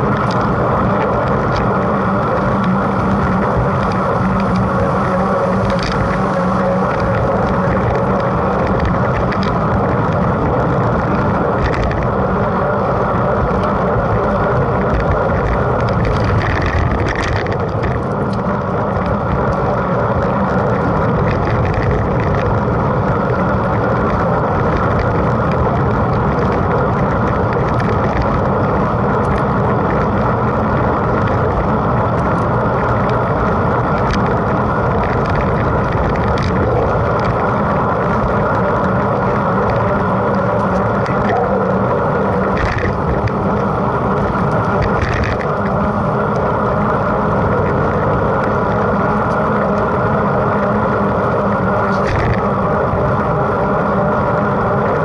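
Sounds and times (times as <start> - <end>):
bike tyre and drivetrain noise: 0.0 - 55.0
wind buffeting microphone: 0.0 - 55.0.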